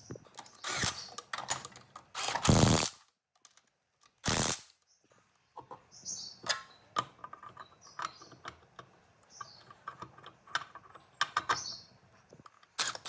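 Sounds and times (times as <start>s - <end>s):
metal parts and tools clicking: 0.2s - 4.8s, 6.4s - 11.8s, 12.4s - 13.0s.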